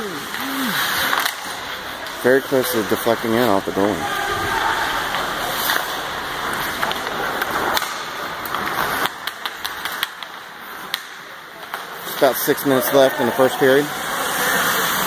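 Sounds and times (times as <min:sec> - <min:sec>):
hockey sticks and puck clacking: 0:00.0 - 0:15.0
steady rushing hiss of ice rink: 0:00.0 - 0:15.0.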